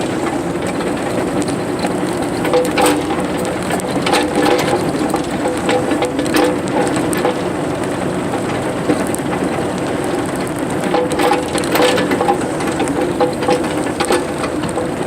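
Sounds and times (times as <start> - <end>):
crunching and cracking: 0.0 - 15.0
excavator running: 0.0 - 15.0.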